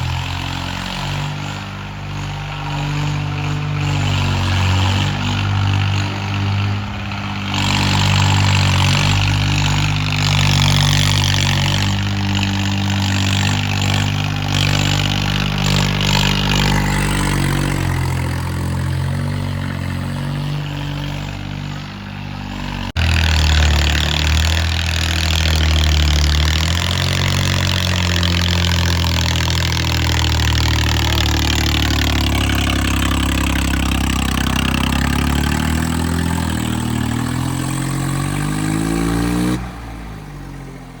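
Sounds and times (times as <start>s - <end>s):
tractor engine revving: 0.0s - 41.0s.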